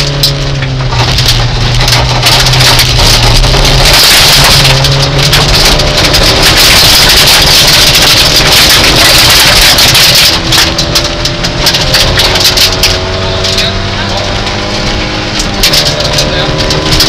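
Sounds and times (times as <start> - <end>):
car engine running hard: 0.0 - 17.0
gravel and tyre crackle: 0.0 - 17.0.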